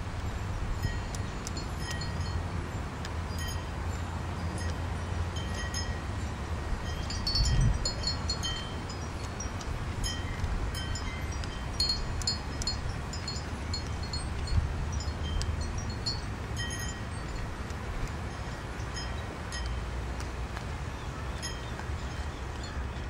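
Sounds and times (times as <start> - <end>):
wind rumble on microphone: 0.0 - 23.0
metal chimes tinkling: 0.4 - 2.5, 3.3 - 17.6, 18.3 - 19.9, 21.4 - 23.0.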